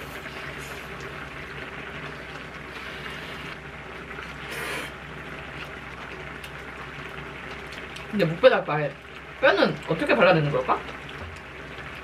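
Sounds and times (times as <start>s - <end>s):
pot simmering on gas stove: 0.0s - 12.0s.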